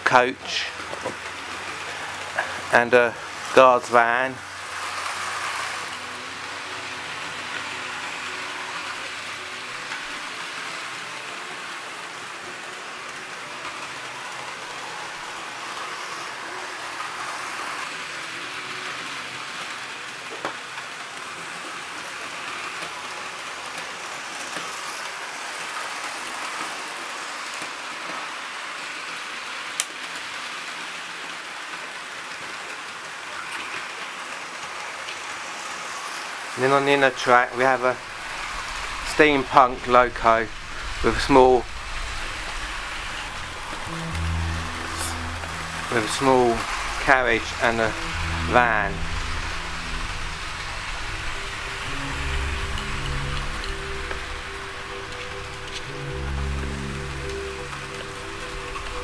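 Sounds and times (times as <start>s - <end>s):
model train motors whirring: 0.0s - 59.0s
wheels rolling on track: 0.0s - 59.0s.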